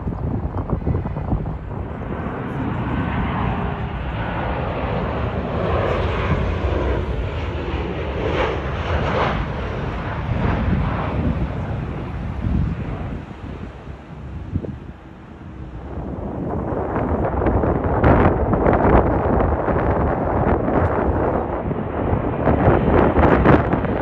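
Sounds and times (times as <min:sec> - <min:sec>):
jet engine rush: 0:00.0 - 0:24.0.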